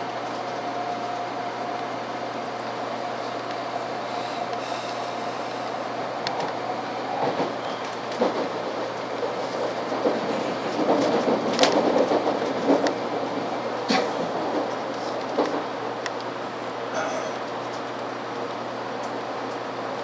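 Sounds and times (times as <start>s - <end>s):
train clicks and knocks: 0.0s - 16.4s, 17.0s - 19.7s
train rumbling: 0.0s - 20.0s.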